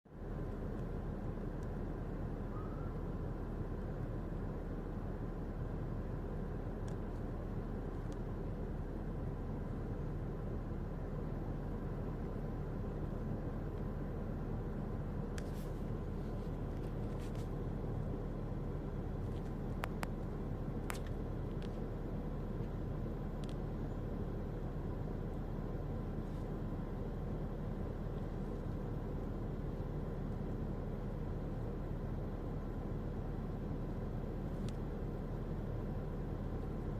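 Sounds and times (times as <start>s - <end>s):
faint hum: 0.1s - 36.9s
low background rumble: 0.1s - 36.9s.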